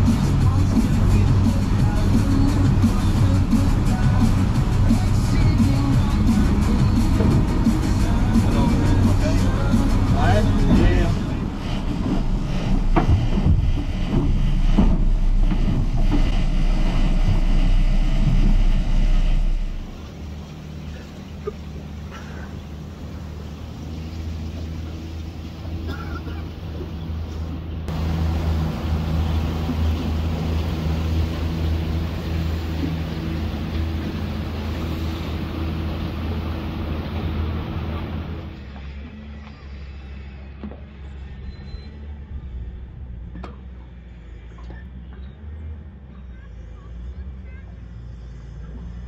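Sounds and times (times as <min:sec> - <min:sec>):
motorboat engine rumble: 0:00.0 - 0:49.0
wind and water noise: 0:00.0 - 0:49.0.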